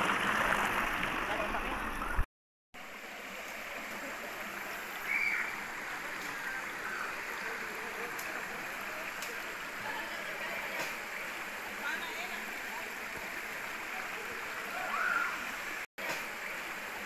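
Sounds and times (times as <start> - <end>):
river flowing over rocks: 2.8 - 17.0.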